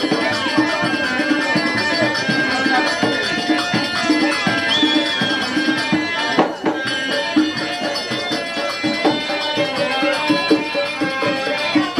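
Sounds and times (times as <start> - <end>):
drum beats: 0.0 - 11.9
jingling percussion: 0.0 - 11.9
sustained held melody: 0.0 - 11.9.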